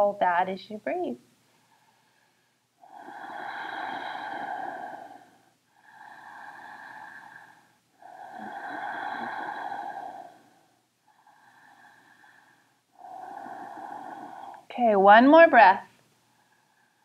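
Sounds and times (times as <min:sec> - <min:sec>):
woman breathing deeply: 0:01.5 - 0:14.7, 0:16.2 - 0:17.0.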